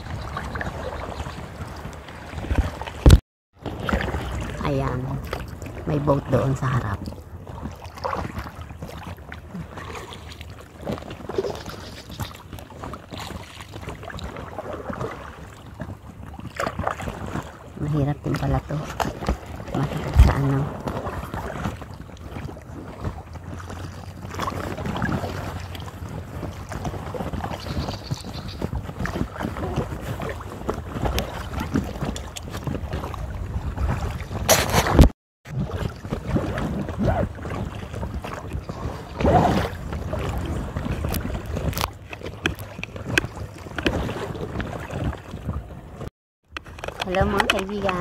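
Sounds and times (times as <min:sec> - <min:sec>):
water sloshing: 0:00.0 - 0:48.0
wind on microphone: 0:00.0 - 0:48.0.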